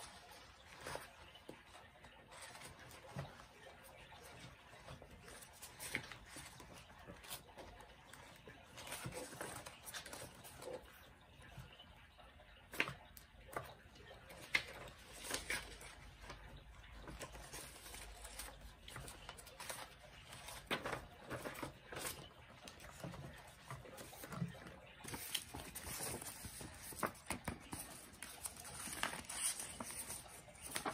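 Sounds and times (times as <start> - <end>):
newspaper pages rustling: 0.0 - 11.0, 14.2 - 30.9.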